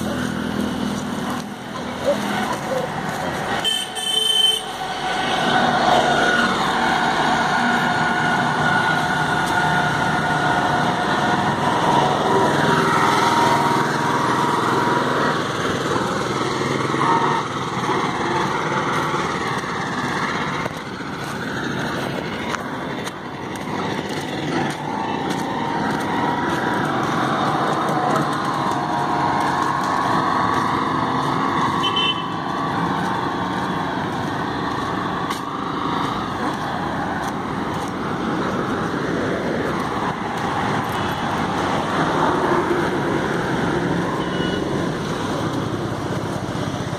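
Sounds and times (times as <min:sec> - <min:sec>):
motor vehicles passing: 0:00.0 - 0:46.9.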